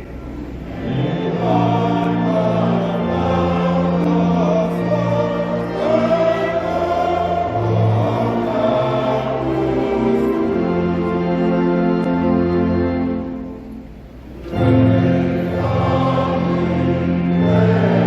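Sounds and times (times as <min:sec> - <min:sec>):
low instrumental accompaniment: 0:00.0 - 0:18.0
choir singing held notes: 0:00.3 - 0:18.0.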